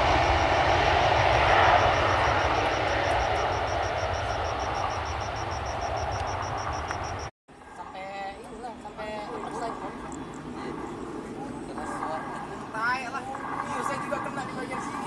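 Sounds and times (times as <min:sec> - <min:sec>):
airliner engines roaring: 0:00.0 - 0:15.0.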